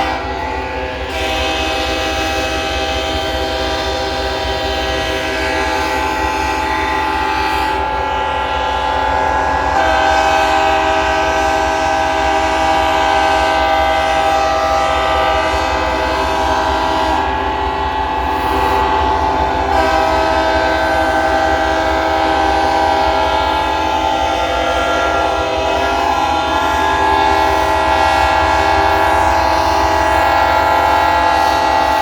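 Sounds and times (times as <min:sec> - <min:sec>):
locomotive air horns blowing: 0:00.0 - 0:32.0.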